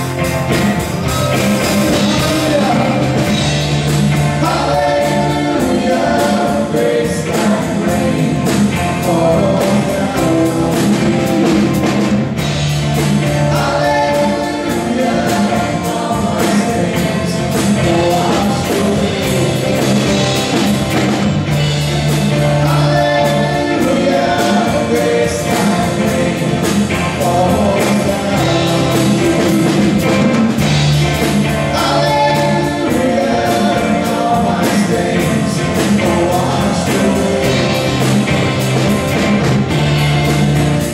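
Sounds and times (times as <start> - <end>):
people singing: 0.0 - 40.9
worship band playing: 0.0 - 40.9.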